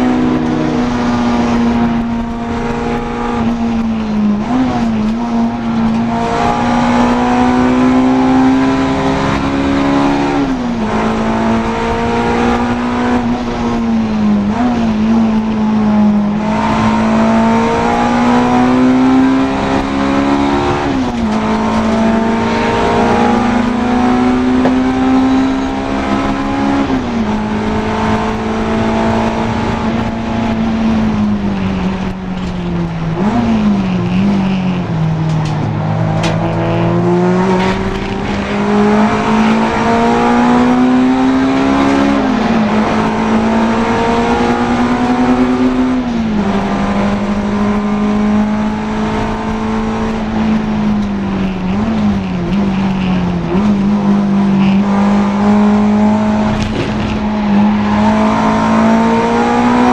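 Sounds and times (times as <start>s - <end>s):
race car engine revving high: 0.0s - 59.9s.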